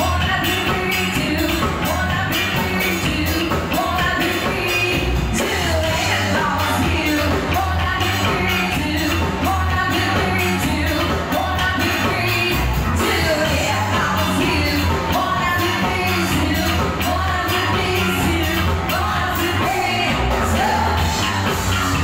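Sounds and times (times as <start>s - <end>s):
bass: 0.0s - 22.0s
drums: 0.0s - 22.0s
electric guitar: 0.0s - 22.0s
women singing: 0.0s - 22.0s.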